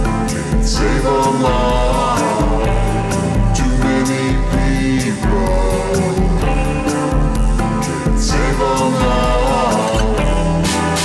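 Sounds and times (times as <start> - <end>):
recorded rock song: 0.0 - 11.0.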